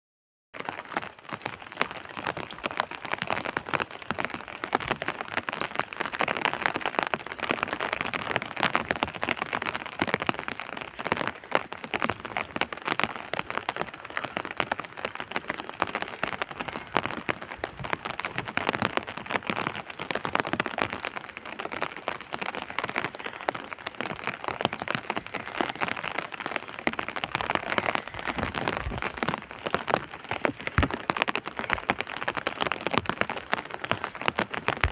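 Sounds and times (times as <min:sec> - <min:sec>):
steady rain falling: 0:00.6 - 0:34.9.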